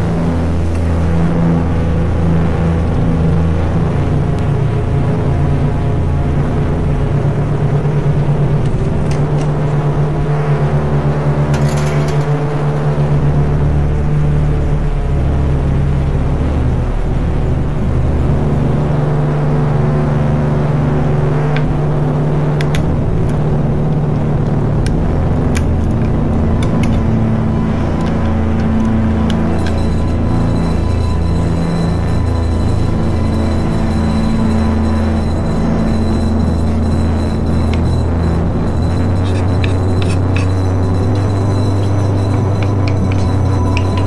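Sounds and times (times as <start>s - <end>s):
ambient drone music: 0.0s - 44.0s.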